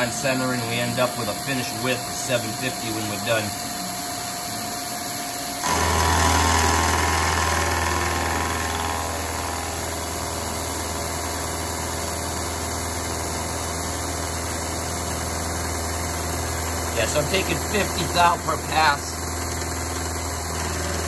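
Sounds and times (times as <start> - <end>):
milling cutter cutting steel: 0.0 - 21.0.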